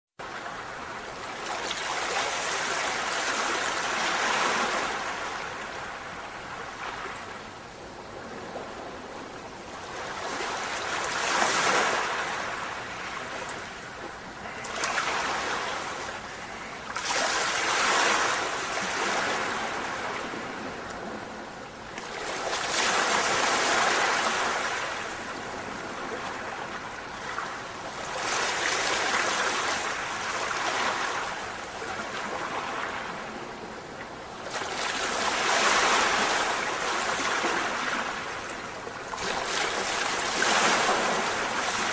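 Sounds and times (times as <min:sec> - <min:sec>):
rushing water: 0:00.2 - 0:41.9.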